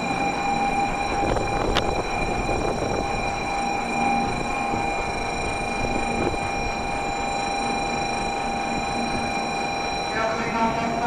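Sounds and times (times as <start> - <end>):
constant high tones: 0.0 - 11.0
train electrical equipment humming: 0.0 - 11.0.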